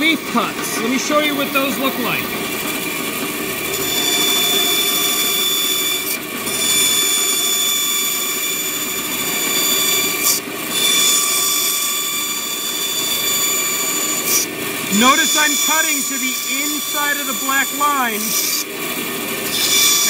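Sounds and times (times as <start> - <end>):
bandsaw cutting plywood: 0.0 - 20.0.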